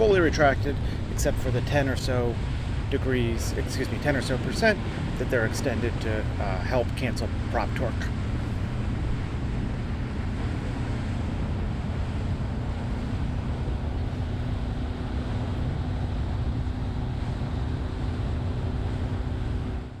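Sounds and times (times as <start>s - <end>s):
low engine drone: 0.0s - 20.0s
water rushing along hull: 0.0s - 20.0s
wind on microphone: 0.0s - 20.0s.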